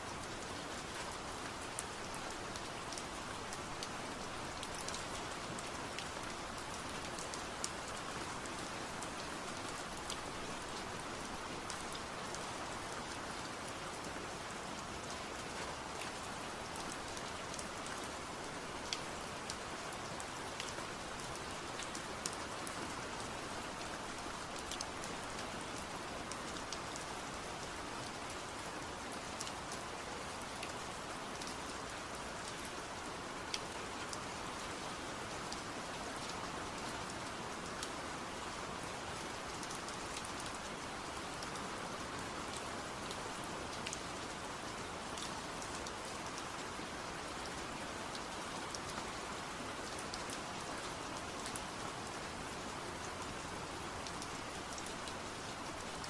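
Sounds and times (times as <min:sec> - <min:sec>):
steady rain hiss: 0:00.0 - 0:56.0
raindrops ticking on a surface: 0:00.1 - 0:56.0.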